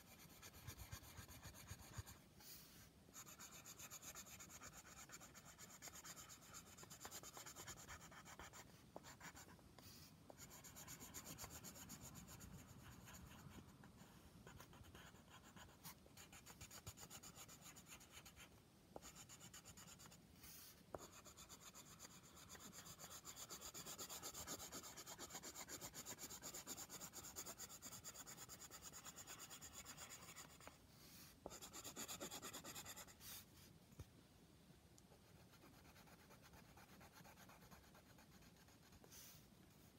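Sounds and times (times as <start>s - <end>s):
pencil scratching on paper: 0.0s - 33.4s, 35.3s - 39.4s.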